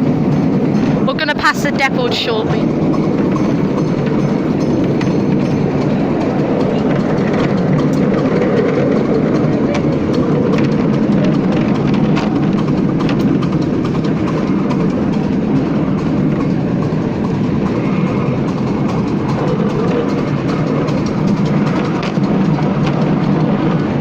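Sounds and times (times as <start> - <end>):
train wheels rumbling on rail: 0.0 - 24.0
clicks and clatter: 0.1 - 24.0.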